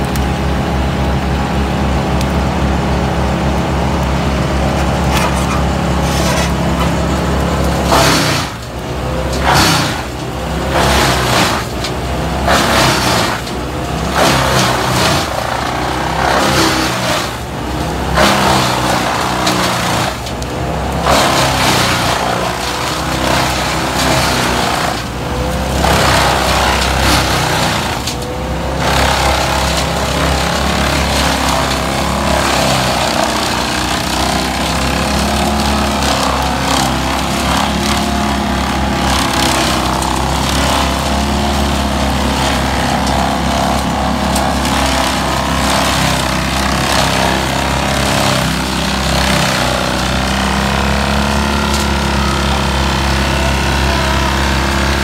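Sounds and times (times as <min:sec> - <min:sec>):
brush chipper engine: 0:00.0 - 0:55.0
chipper taking in branches: 0:00.0 - 0:55.0
skid steer engine: 0:00.0 - 0:55.0.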